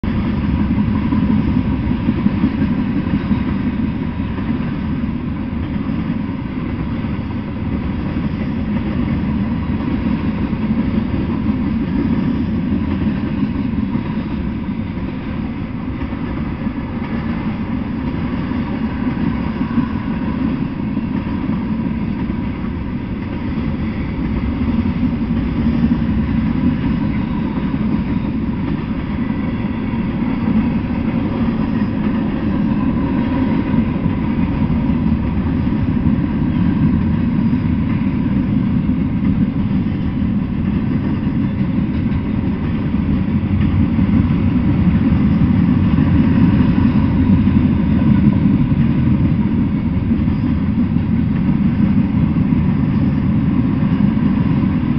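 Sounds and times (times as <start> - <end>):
freight train rumbling past: 0.0 - 54.9.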